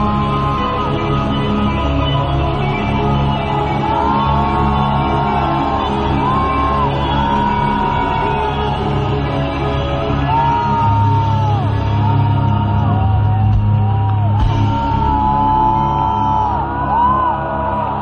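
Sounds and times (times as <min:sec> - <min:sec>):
crowd shouting: 0:00.0 - 0:18.0.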